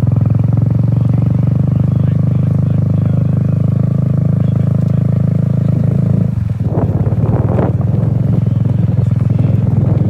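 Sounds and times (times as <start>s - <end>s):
mini bike engine running: 0.0s - 10.0s.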